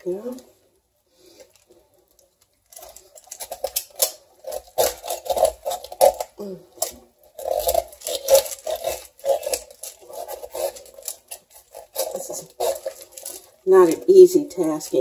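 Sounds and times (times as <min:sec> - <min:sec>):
knife scraping inside raw turkey: 0:02.7 - 0:15.0.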